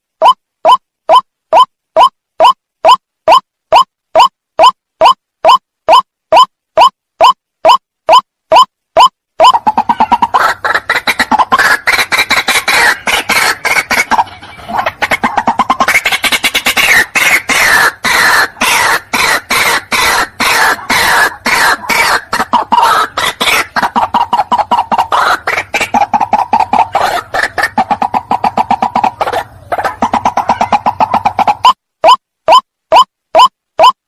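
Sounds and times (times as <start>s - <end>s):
waterhen croaking calls: 0.2s - 34.0s.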